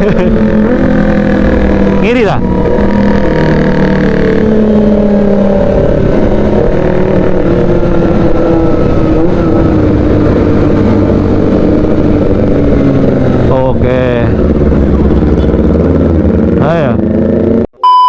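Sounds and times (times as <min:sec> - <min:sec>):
steady low rumble: 0:00.0 - 0:17.0
motorcycle engine revs easing: 0:00.0 - 0:17.7.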